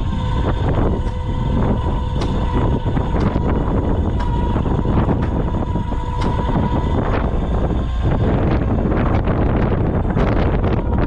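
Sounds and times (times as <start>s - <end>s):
strong gusty wind on microphone: 0.0s - 11.0s.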